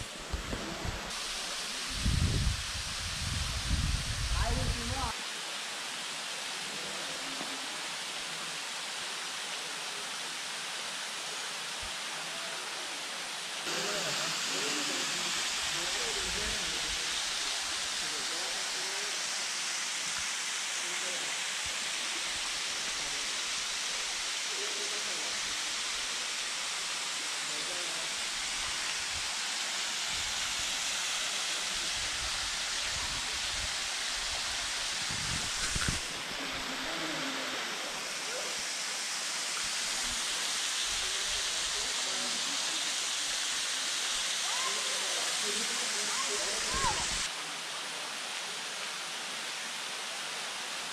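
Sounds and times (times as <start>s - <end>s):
waterfall rushing: 0.0s - 3.0s, 4.4s - 50.9s.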